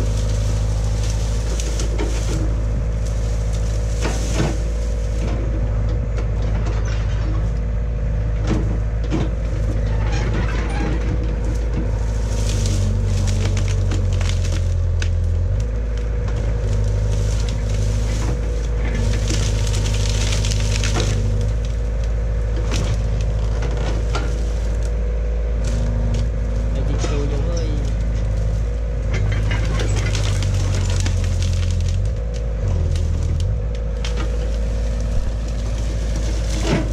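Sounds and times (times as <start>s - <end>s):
leaves rustling: 0.0s - 5.8s, 9.3s - 36.9s
branches snapping: 0.0s - 6.4s, 10.7s - 36.9s
excavator diesel engine running: 0.0s - 36.9s.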